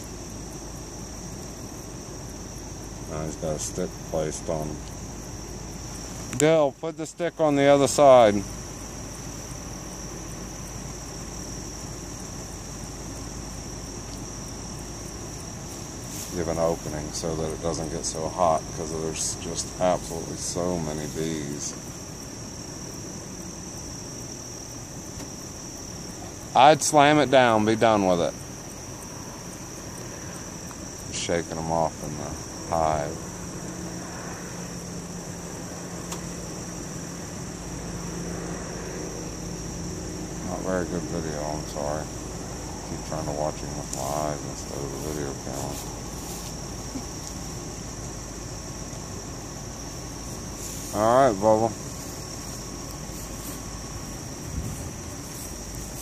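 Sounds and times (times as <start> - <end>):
cricket trill: 0.0 - 56.0
honey bees droning: 0.0 - 56.0.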